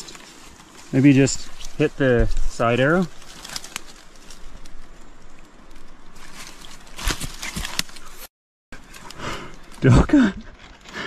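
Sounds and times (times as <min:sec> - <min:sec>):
forest background hiss: 0:00.0 - 0:08.2, 0:08.8 - 0:11.0.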